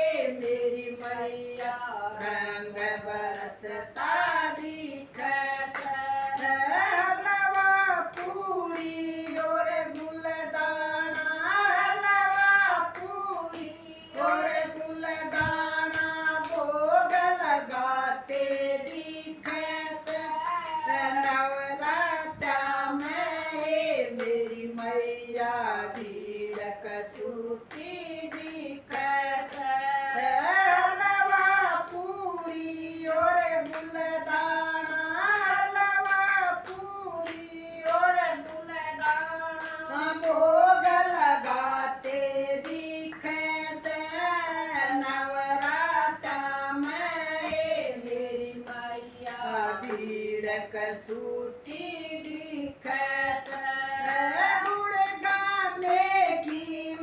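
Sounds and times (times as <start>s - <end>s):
hand claps: 0.0s - 57.0s
women singing together: 0.0s - 57.0s.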